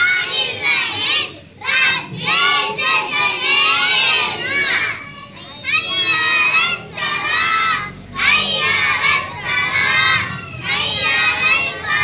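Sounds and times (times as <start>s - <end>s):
boys chanting in unison: 0.0s - 12.0s.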